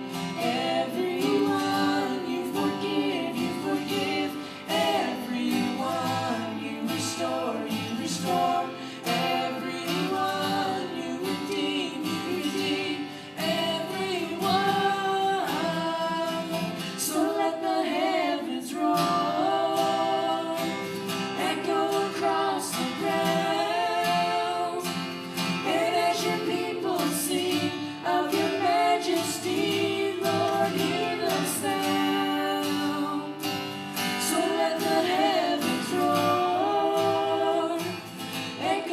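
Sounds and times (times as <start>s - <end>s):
acoustic guitar: 0.0s - 38.9s
children singing: 0.0s - 38.9s.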